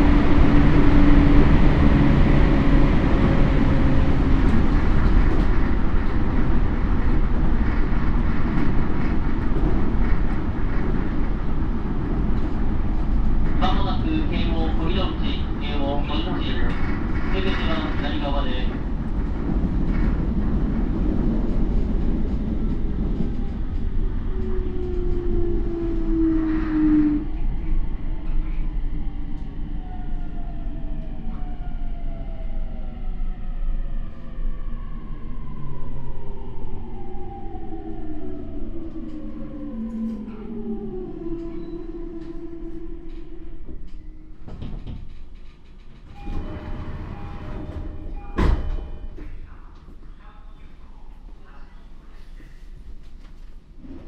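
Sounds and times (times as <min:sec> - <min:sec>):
train wheels rumbling: 0:00.0 - 0:32.5, 0:36.9 - 0:50.4.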